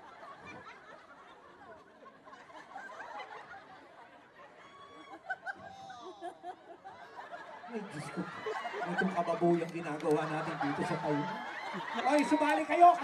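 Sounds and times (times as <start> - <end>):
crowd laughing and chattering: 0.0 - 13.0.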